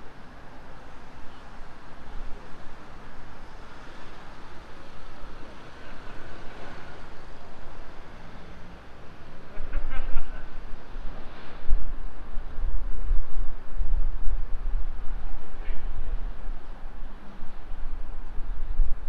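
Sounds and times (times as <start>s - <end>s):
passing road traffic: 0.0s - 19.0s.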